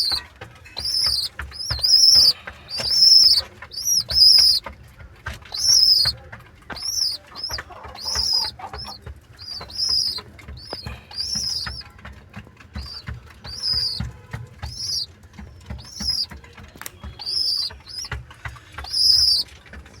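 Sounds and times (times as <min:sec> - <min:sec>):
soft low thumps: 0:00.0 - 0:19.4
pigeon squabs squeaking: 0:00.0 - 0:20.0.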